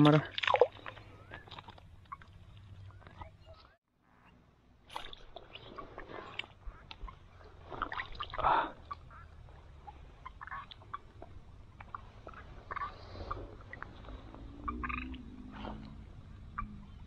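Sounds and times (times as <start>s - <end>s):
water sloshing and splashing: 0.0s - 3.7s, 4.8s - 16.8s.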